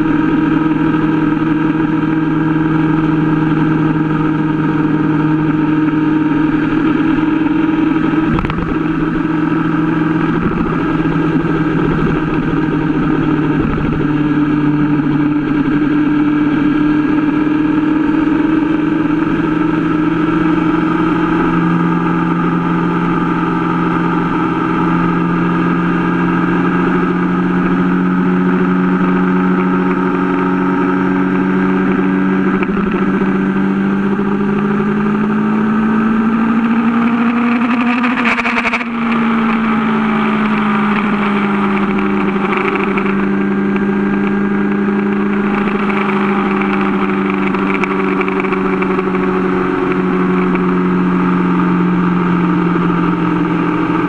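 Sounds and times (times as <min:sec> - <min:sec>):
motorcycle engine running: 0:00.0 - 0:54.0
rush of wind noise: 0:00.0 - 0:54.0.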